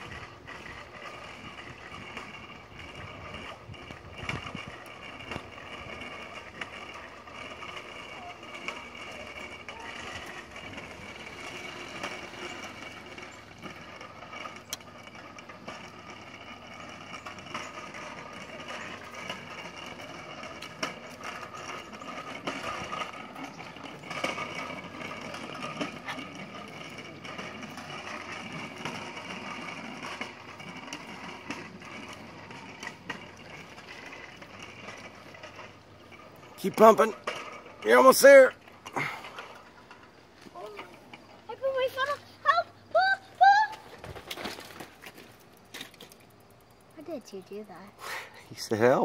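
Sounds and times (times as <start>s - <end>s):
bicycle chain rattling: 0.0s - 49.0s.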